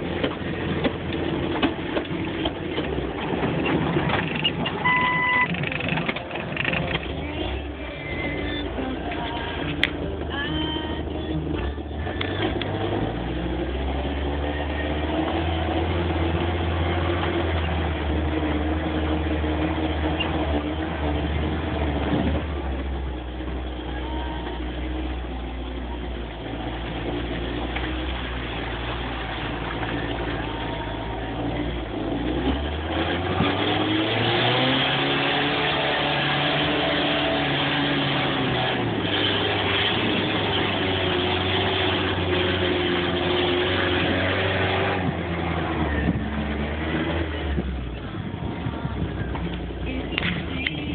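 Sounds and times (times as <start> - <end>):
car engine with exhaust leak: 0.0 - 50.9.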